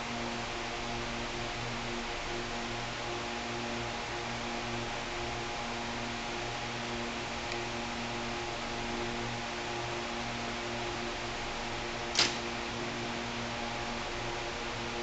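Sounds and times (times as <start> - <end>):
low hum with hiss: 0.0 - 15.0.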